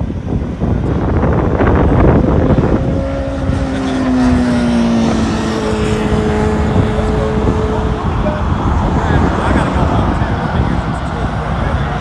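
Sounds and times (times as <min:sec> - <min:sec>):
vehicle engine drone: 0:00.0 - 0:12.0
wind buffeting microphone: 0:00.0 - 0:12.0.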